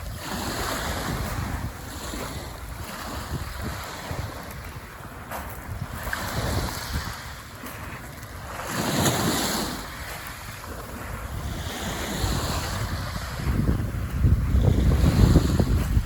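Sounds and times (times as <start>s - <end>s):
small waves washing onto beach: 0.0s - 16.0s
wind buffeting microphone: 0.0s - 16.0s.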